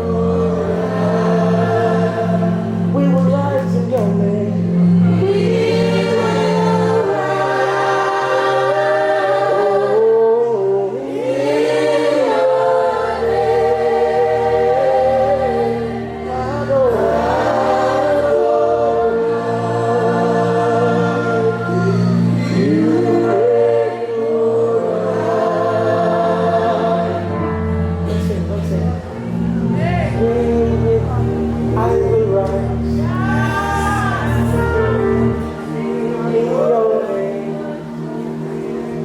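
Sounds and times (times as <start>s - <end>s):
congregation singing: 0.0s - 39.0s
keyboard chords: 0.0s - 39.0s.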